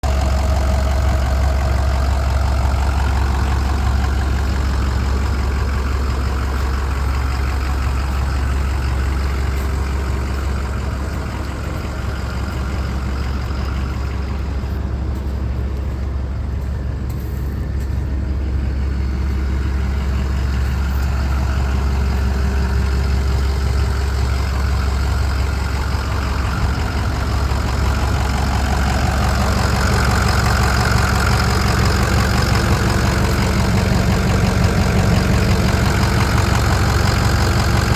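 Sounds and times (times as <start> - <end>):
diesel engine idling: 0.0 - 37.9.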